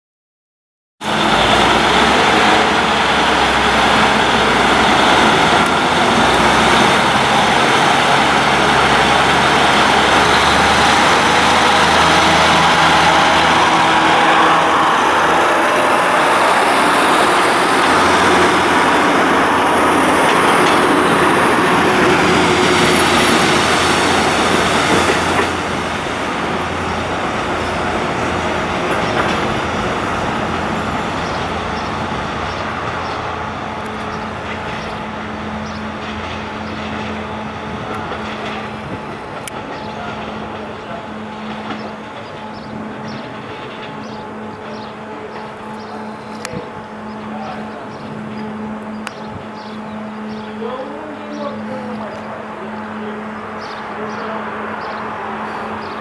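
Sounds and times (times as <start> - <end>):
low engine drone: 1.0 - 56.0
train wheels rumbling on rail: 1.0 - 56.0.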